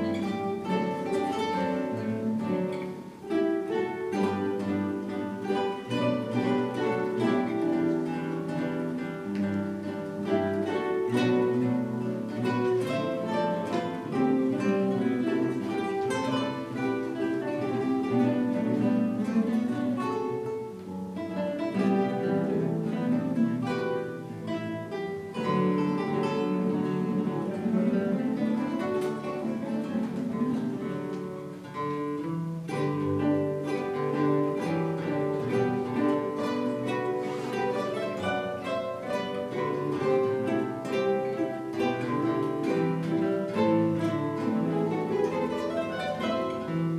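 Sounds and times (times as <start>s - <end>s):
acoustic guitar ensemble playing: 0.0s - 46.9s.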